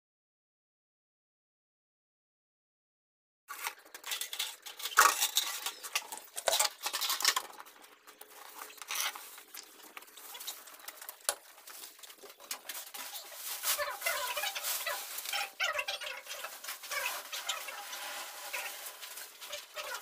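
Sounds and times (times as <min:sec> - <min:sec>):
plastic sacks rustling: 0:03.5 - 0:20.0.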